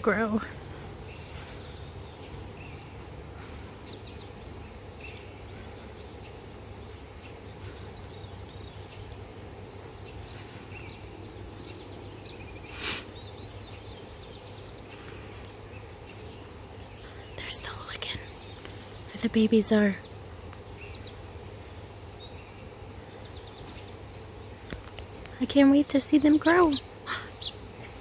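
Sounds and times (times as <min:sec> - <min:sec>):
faint bird chirps: 0:00.0 - 0:28.0
steady outdoor hum: 0:00.0 - 0:28.0.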